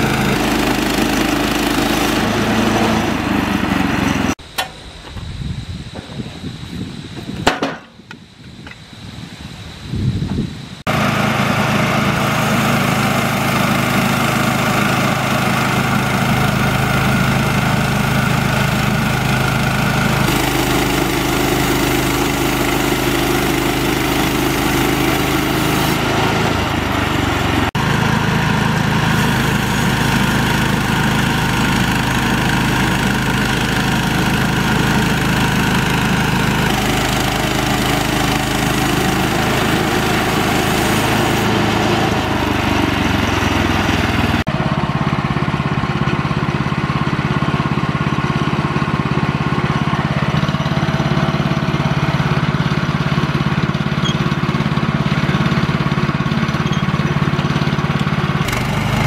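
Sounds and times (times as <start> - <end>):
band sawmill engine running: 0.0 - 59.0.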